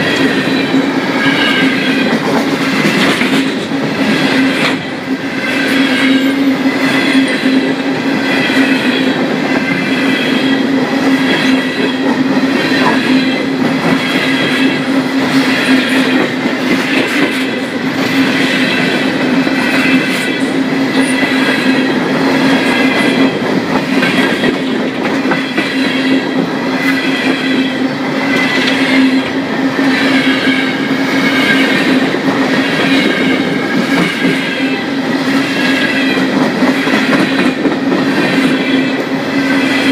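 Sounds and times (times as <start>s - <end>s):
steel wheels rumbling on rails: 0.0s - 39.9s.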